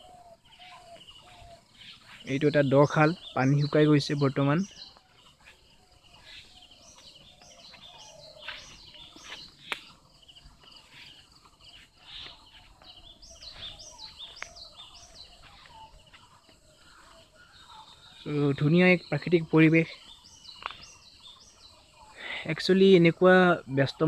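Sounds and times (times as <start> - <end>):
birds chirping and calling: 0.0 - 24.0
faint outdoor background noise: 0.0 - 24.0.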